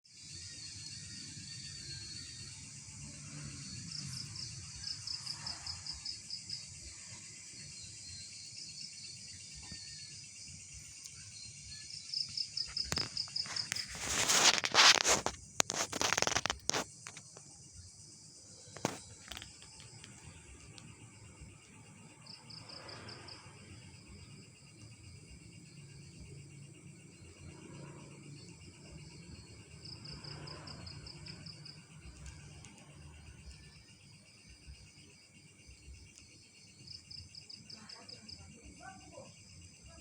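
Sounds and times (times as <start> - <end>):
crickets trilling: 0.1 - 40.0
rapid insect chirps: 0.1 - 40.0.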